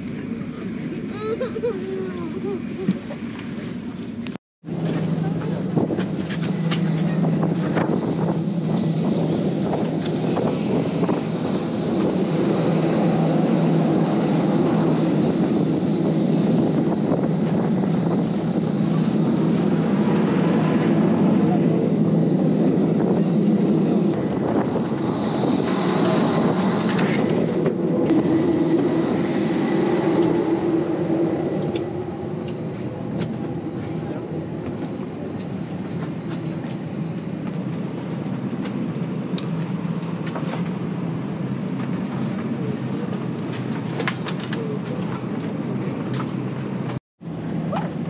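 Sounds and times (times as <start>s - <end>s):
airplane cabin hum: 0.0s - 48.0s
low rumble with rattles: 2.4s - 48.0s.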